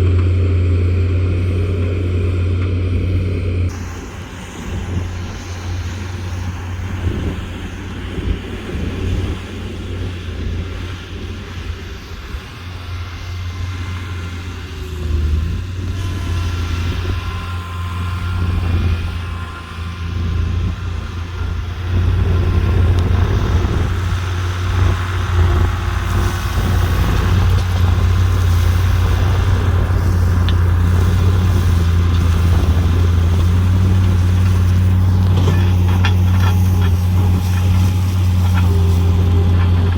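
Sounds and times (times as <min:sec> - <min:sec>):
large engine humming: 0:00.0 - 0:39.9.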